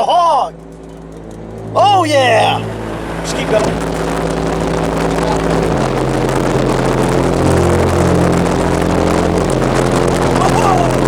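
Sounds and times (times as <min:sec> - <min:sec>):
car engine: 0:00.0 - 0:11.0
road noise inside vehicle: 0:00.0 - 0:11.0.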